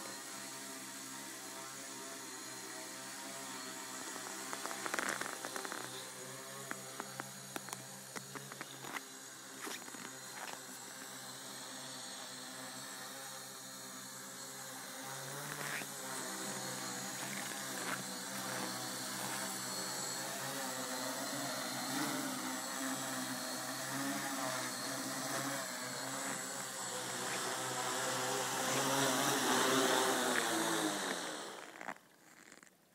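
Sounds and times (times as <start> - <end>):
drone motors buzzing: 0.0 - 32.7.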